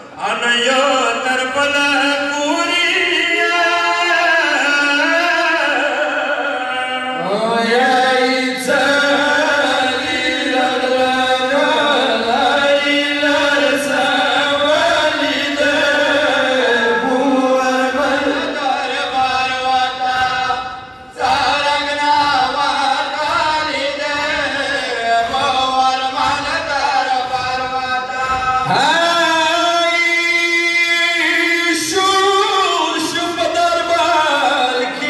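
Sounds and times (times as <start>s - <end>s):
men chanting a lament: 0.1s - 35.0s.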